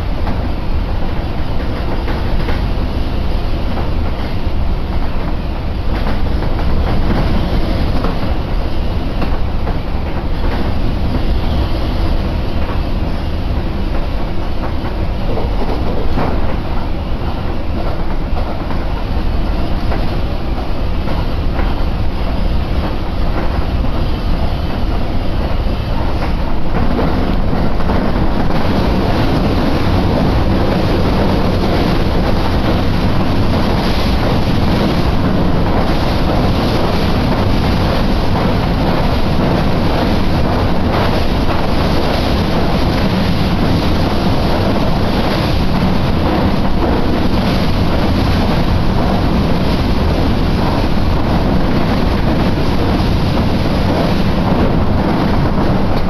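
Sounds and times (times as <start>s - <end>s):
clickety-clack of rail joints: 0.0s - 56.0s
train wheels rumbling on rail: 0.0s - 56.0s.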